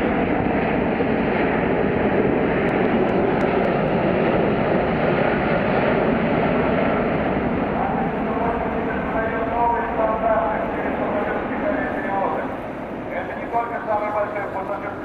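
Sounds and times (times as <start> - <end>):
airliner jet roar flying past: 0.0 - 15.0.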